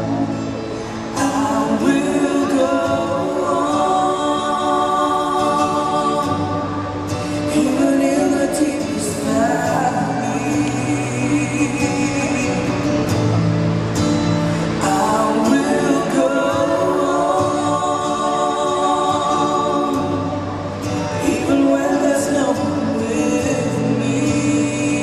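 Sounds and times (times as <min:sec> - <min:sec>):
worship song over loudspeakers: 0:00.0 - 0:25.0.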